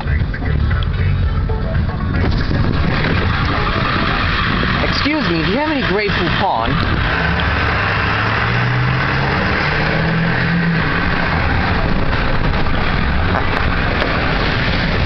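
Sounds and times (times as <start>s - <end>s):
diesel engine pulling: 0.0s - 15.0s
road and wind noise: 0.0s - 15.0s.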